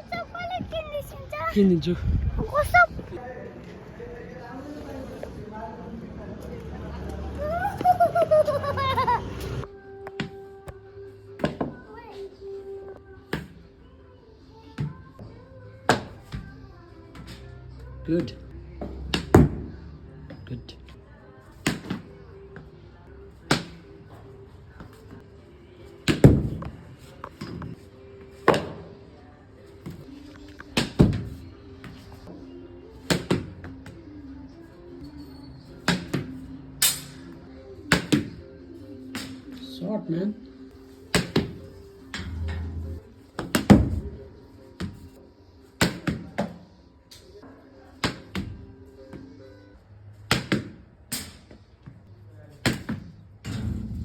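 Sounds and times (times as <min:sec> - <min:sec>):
background music: 0:00.0 - 0:54.0.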